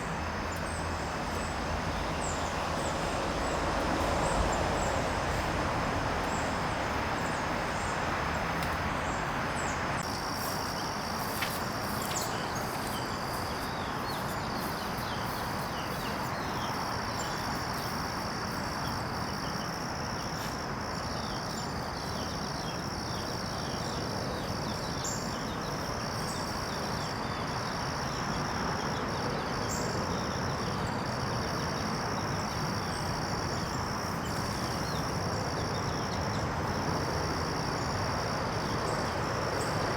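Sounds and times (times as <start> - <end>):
faint pulsing insect trill: 0.0 - 39.9
outdoor background hiss: 0.0 - 39.9
insects singing: 6.2 - 39.9.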